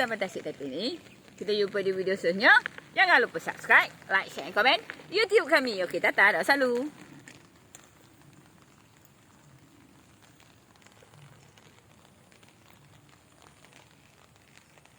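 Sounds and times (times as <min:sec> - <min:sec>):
faint rain patter: 0:00.0 - 0:14.9.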